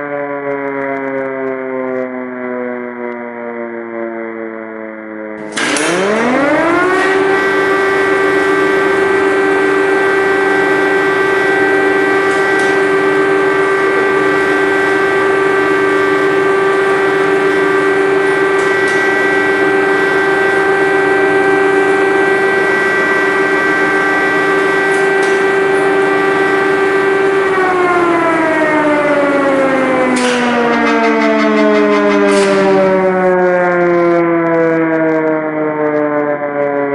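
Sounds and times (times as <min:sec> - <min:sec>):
air-raid siren: 0:00.0 - 0:36.9.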